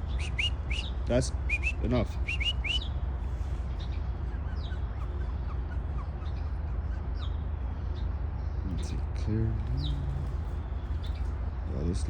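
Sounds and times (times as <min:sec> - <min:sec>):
low street rumble: 0:00.0 - 0:12.0
small birds chirping: 0:00.0 - 0:12.0.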